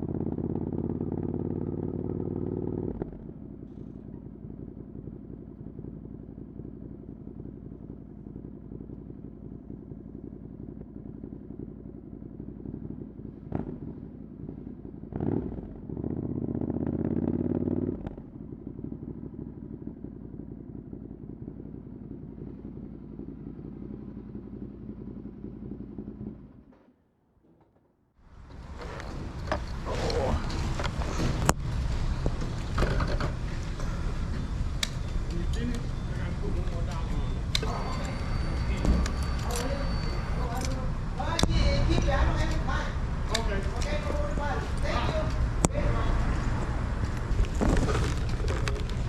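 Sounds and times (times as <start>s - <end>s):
motorcycle engine idling: 0.0s - 27.0s, 28.2s - 49.0s.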